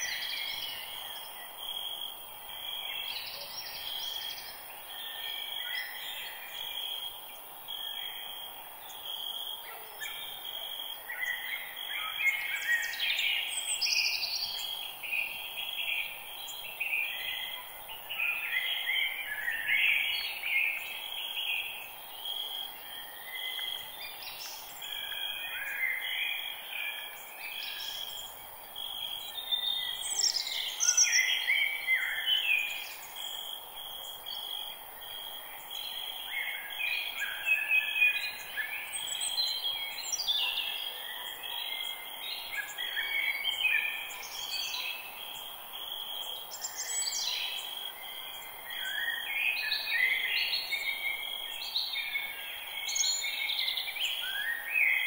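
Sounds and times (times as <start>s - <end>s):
forest birds singing: 0.0s - 55.0s.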